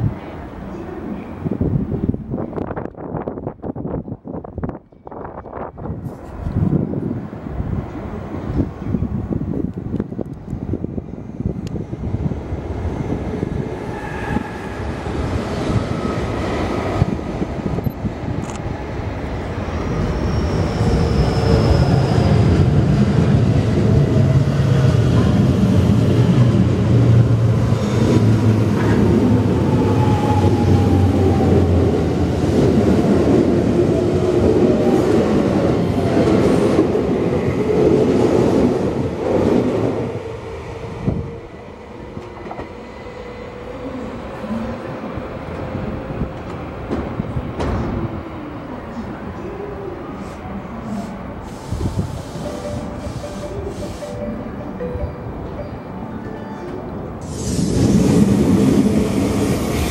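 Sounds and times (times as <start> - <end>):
train wheels rumbling on rails: 0.0 - 49.3.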